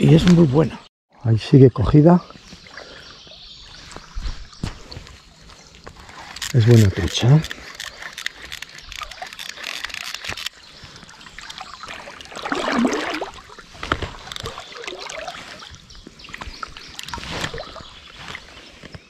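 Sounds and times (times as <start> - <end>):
river water splashing: 2.3 - 18.6.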